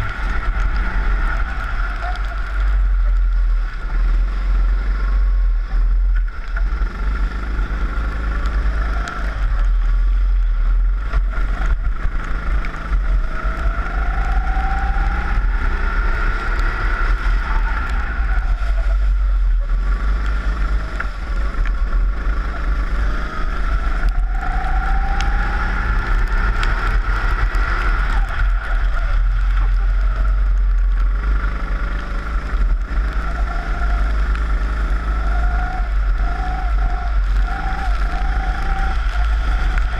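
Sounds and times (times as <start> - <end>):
kart engine accelerating: 0.0 - 39.9
wind rumble on microphone: 0.0 - 39.9.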